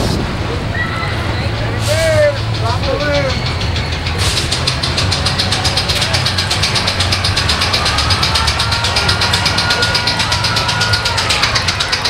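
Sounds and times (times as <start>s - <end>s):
fairground ride engine hum: 0.0s - 12.0s
fast clattering tick: 1.6s - 12.0s.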